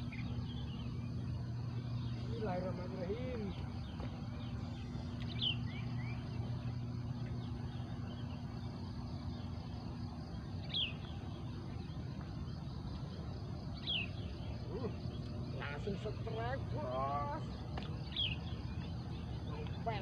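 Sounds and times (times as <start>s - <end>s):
bird chirping: 0.0s - 20.0s
low mechanical rumble: 0.0s - 20.0s.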